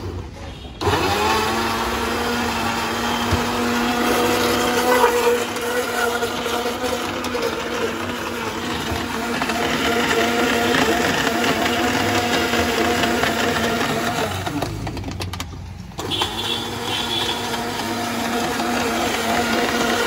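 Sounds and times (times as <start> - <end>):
blender running: 0.8 - 15.2, 16.0 - 20.0.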